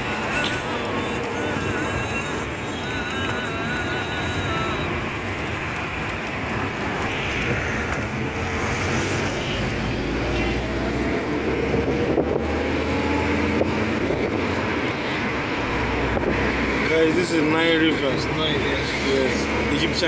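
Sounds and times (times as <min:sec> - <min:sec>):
car engine: 0:00.0 - 0:20.0
road noise: 0:00.0 - 0:20.0.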